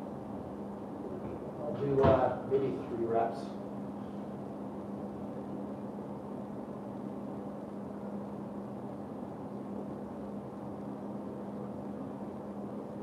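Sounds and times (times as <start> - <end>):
constant low hum: 0.0 - 13.0.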